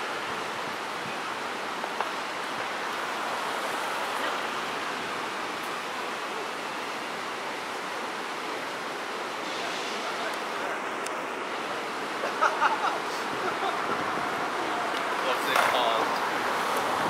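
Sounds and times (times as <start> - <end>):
buses idling and traffic: 0.0 - 17.0.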